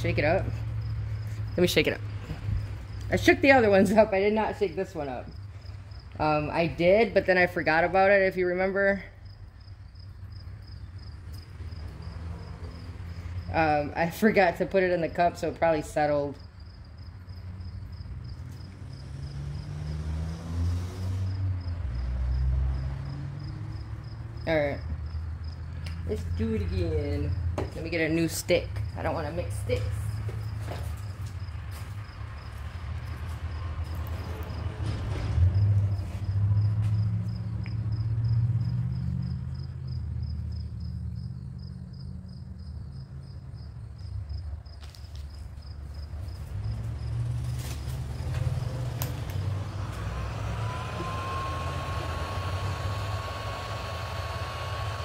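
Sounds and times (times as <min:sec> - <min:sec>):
motor vehicle passing: 0:00.0 - 0:07.8, 0:10.3 - 0:15.2, 0:16.6 - 0:28.0, 0:28.8 - 0:55.0
cricket chirping: 0:00.3 - 0:04.1, 0:05.1 - 0:06.8, 0:09.1 - 0:14.0, 0:16.3 - 0:27.8, 0:28.5 - 0:34.8, 0:35.5 - 0:55.0.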